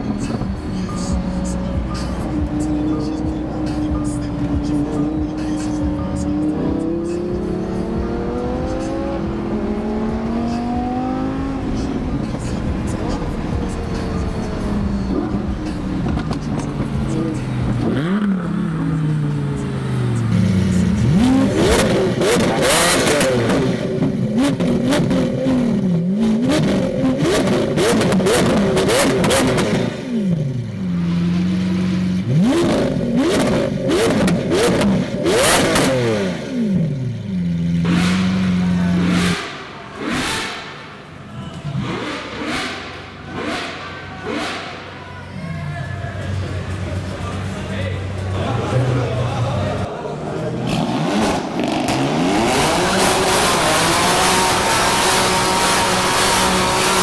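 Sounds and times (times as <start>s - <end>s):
car engine shifting gears: 0.0s - 45.0s, 46.2s - 57.0s
supercar engine revving: 0.0s - 57.0s.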